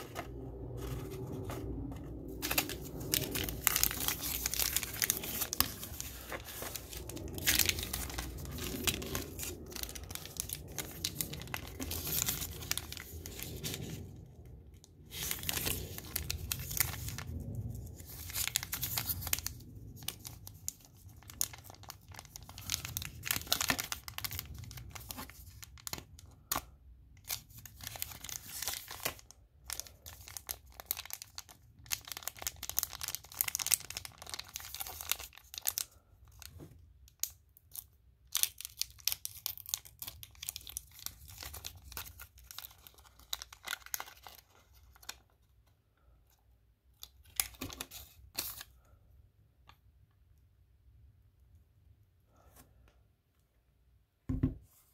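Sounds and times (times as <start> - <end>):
foil wrapper crinkling and tearing: 2.3 - 45.5, 46.9 - 48.9.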